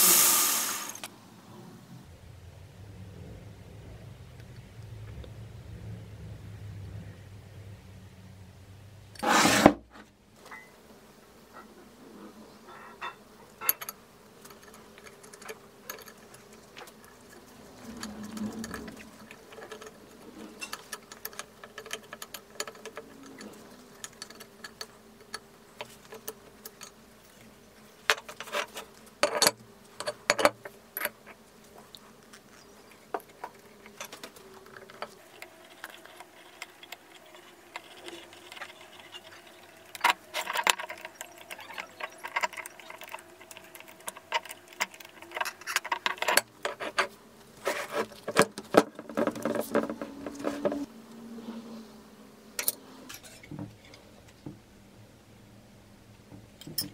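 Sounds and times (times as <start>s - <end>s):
heavy metal parts on wooden bench: 0.0s - 10.8s, 11.5s - 51.6s, 52.6s - 56.9s.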